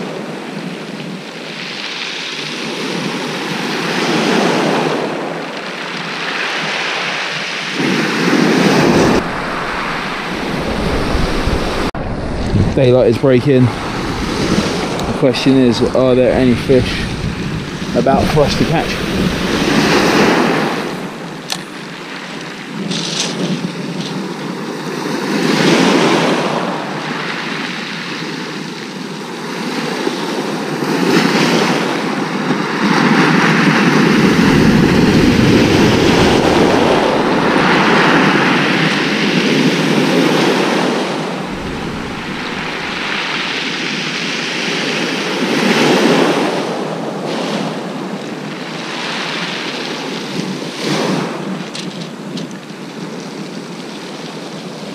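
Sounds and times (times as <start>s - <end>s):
waves breaking on shingle beach: 0.0s - 54.9s
wind rumbling on microphone: 0.0s - 54.9s.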